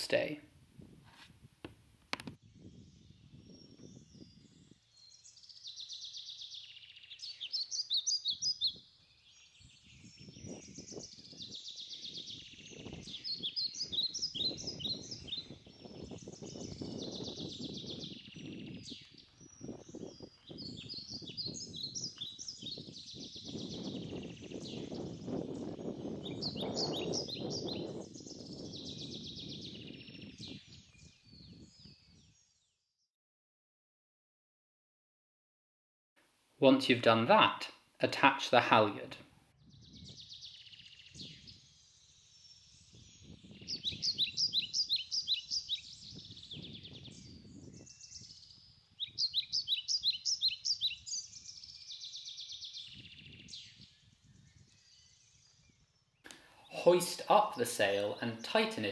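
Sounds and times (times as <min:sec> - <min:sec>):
songbird chirps and trills: 0:02.1 - 0:32.7, 0:36.6 - 0:58.9.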